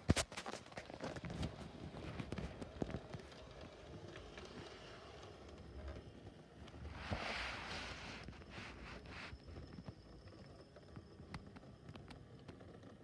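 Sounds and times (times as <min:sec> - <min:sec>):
model train running on track: 0:00.8 - 0:13.0.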